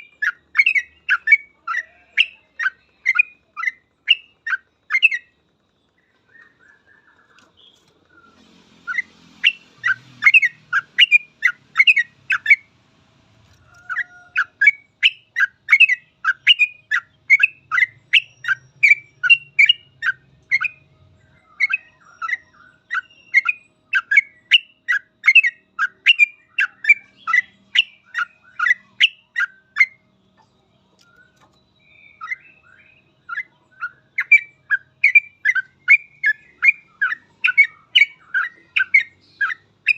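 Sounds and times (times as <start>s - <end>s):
bulbul chattering song: 0.0s - 12.8s, 13.6s - 39.9s.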